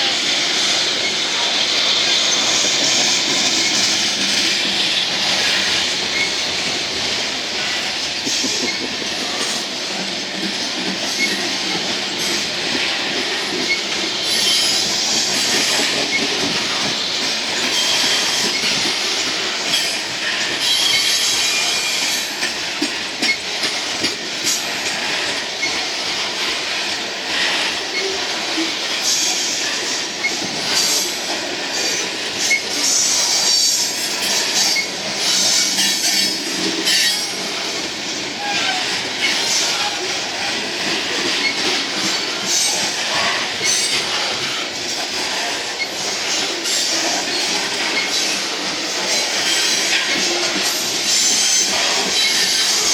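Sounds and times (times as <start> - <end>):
coal cars rolling on rails: 0.0 - 52.9.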